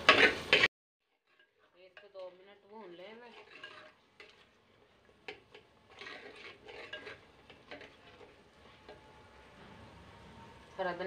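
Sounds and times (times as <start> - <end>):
spoon scraping clay pot: 0.0 - 9.1.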